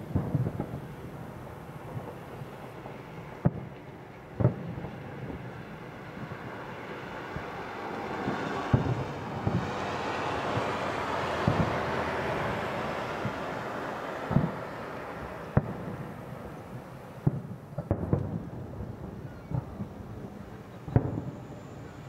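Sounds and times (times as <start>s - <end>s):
distant fireworks booming: 0.0s - 22.0s
fireworks crackle and hiss: 0.0s - 22.0s.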